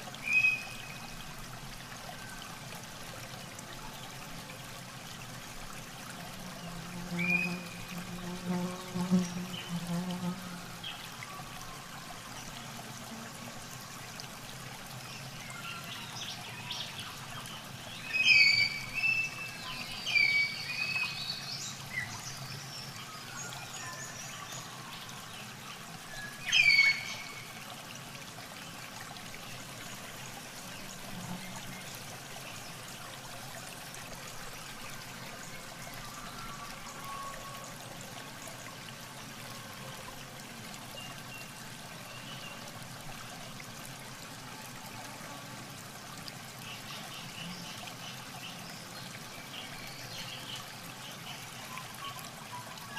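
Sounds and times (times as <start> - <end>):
water pouring and trickling: 0.0 - 52.9.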